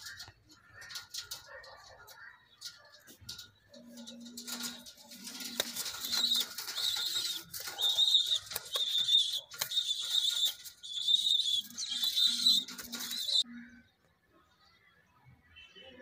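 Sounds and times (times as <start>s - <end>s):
pigeons cooing: 0.0s - 13.4s
pigeons squeaking: 0.0s - 13.4s.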